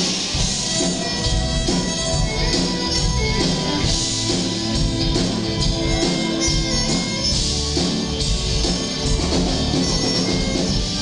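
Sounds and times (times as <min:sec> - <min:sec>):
fiddle: 0:00.0 - 0:11.0
folk band playing through speakers: 0:00.0 - 0:11.0.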